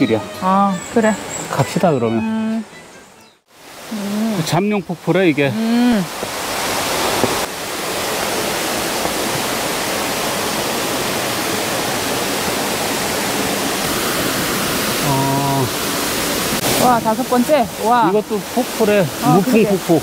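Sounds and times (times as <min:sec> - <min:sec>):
waterfall rushing: 0:03.5 - 0:20.0.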